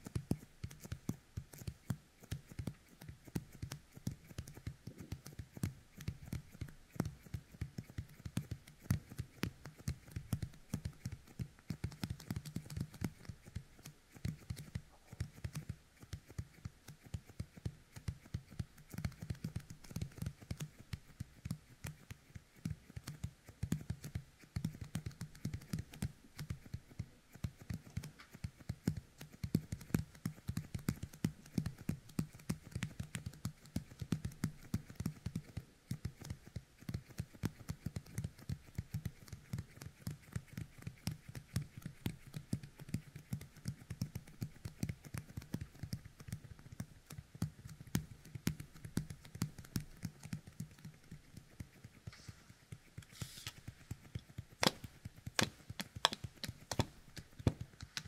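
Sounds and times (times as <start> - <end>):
sticky fingertips clicking and popping: 0.0 - 58.0.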